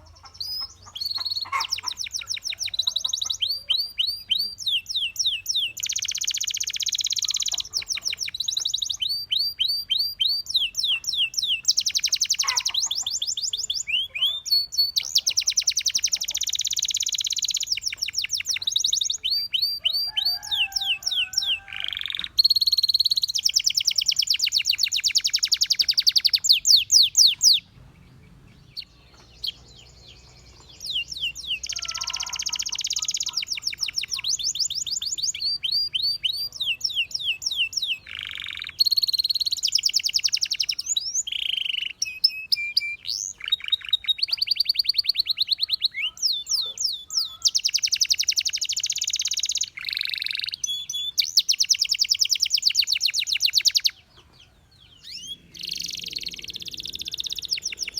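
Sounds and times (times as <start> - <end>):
canary singing chirps and trills: 0.0 - 57.9.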